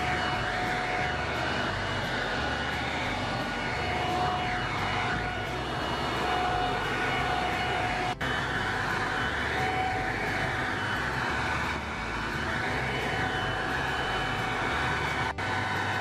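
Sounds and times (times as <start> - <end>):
electric leaf blower running: 0.0 - 16.0.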